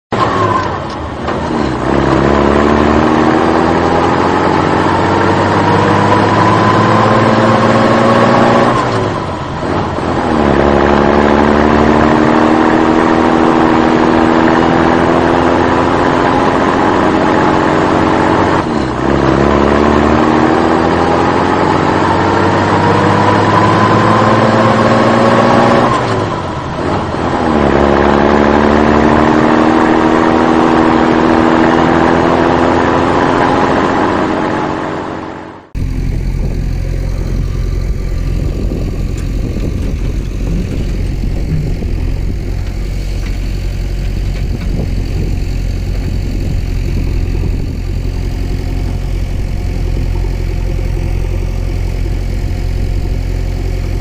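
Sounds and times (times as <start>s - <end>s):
engine accelerating: 0.1s - 54.0s.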